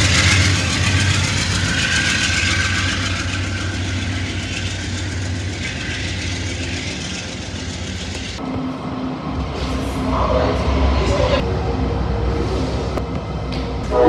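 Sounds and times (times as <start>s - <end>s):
diesel locomotive engine drone: 0.0s - 14.0s
diesel locomotive low hum: 0.0s - 14.0s
wheel and rail noise: 0.0s - 14.0s.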